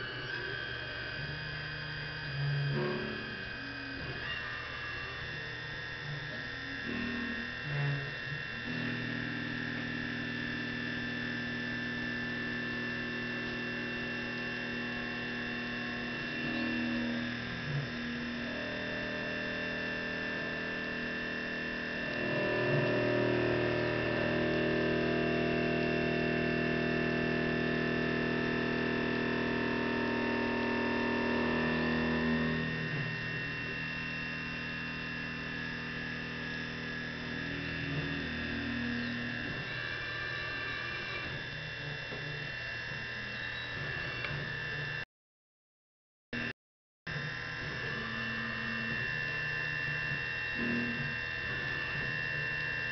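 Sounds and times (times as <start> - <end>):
drive motors humming: 0.0 - 45.0, 47.1 - 52.6
high spindle whine: 0.0 - 45.0, 47.1 - 52.9.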